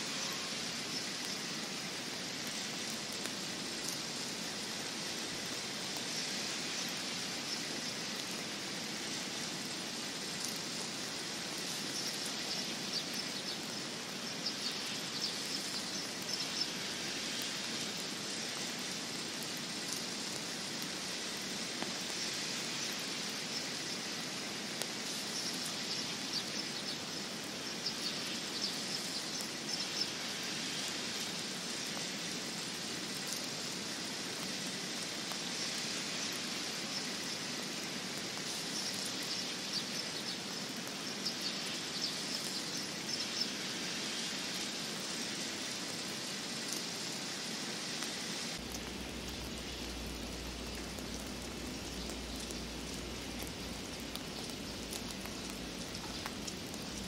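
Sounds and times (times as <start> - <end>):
snowflakes pattering on needles: 0.0 - 57.0
wind in pine branches: 0.0 - 57.0.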